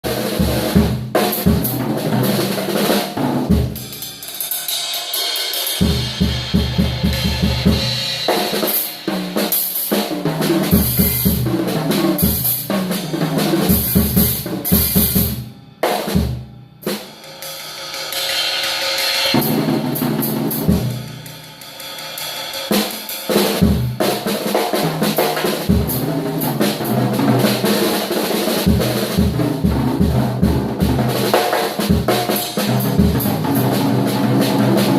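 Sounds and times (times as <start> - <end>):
drum kit solo: 0.0 - 34.9.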